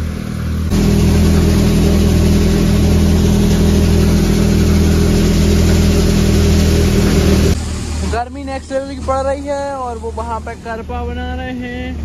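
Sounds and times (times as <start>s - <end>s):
threshing machine rushing: 0.0s - 10.2s
tractor engine drone: 0.0s - 12.0s.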